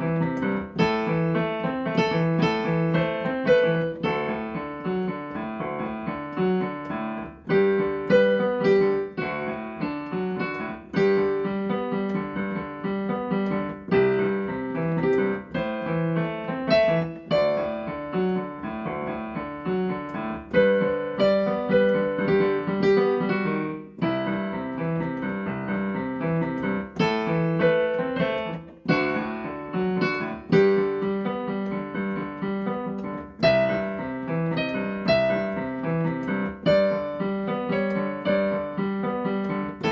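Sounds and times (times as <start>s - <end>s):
piano keyboard melody over chords: 0.0s - 39.9s.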